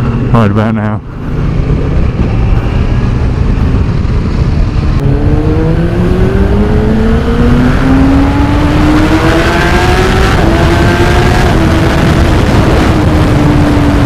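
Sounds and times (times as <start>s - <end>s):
motorcycle engine accelerating: 1.0s - 14.0s
wind noise on microphone: 1.1s - 14.0s.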